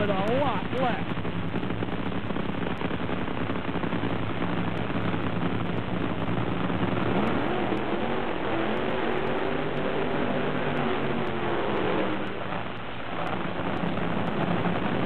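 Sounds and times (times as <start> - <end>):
dragster engine idling: 0.0 - 8.5, 9.3 - 15.0
broadcast audio hiss: 0.0 - 15.0.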